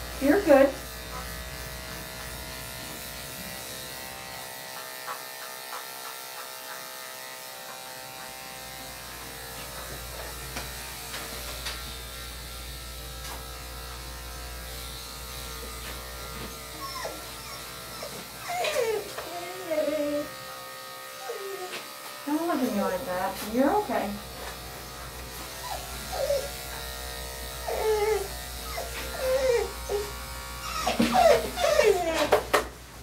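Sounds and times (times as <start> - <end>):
electric clippers humming: 0.0 - 33.0.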